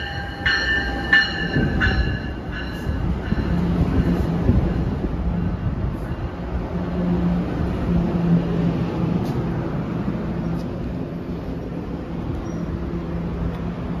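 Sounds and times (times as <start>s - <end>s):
railcars low mechanical hum: 0.0s - 14.0s.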